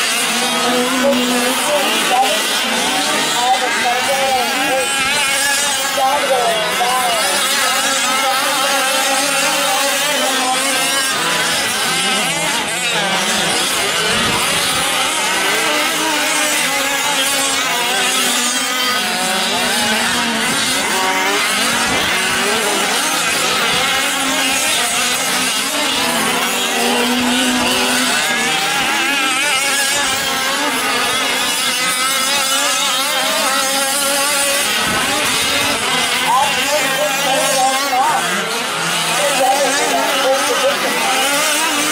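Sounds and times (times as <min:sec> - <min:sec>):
small engines buzzing and revving: 0:00.0 - 0:41.9.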